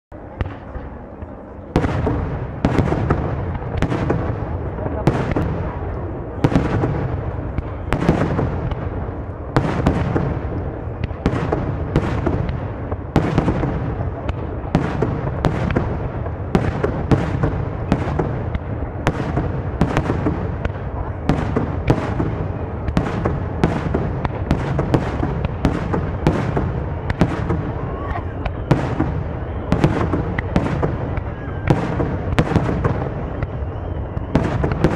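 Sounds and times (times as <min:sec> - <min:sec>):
low rumble of echoing reports: 0:00.1 - 0:34.9.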